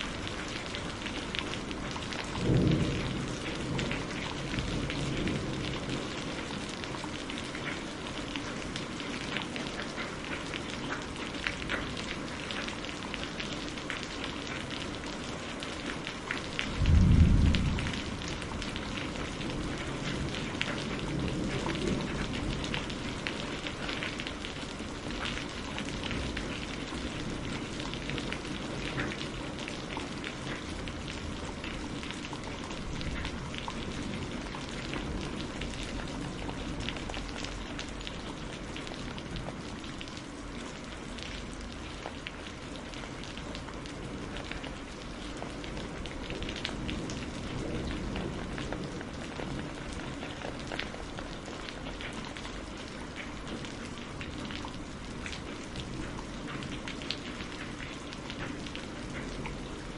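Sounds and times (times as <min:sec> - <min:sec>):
rain drops on hard surface: 0:00.0 - 0:59.9.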